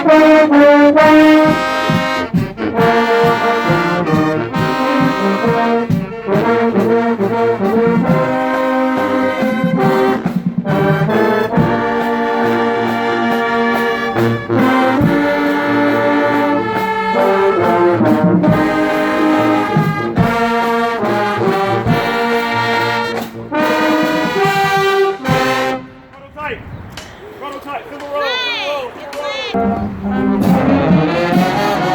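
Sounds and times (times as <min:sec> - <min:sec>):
marching band playing: 0:00.0 - 0:26.6, 0:27.2 - 0:31.9.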